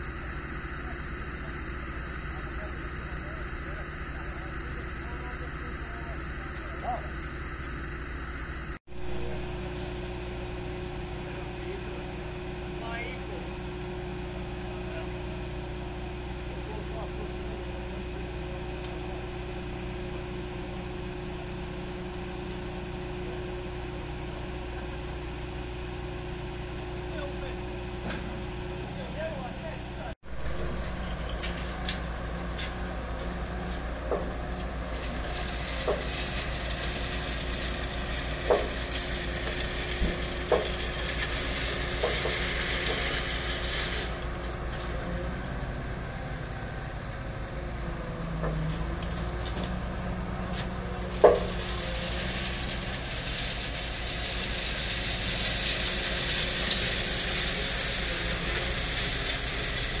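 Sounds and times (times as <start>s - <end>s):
diesel engines running: 0.0s - 60.0s.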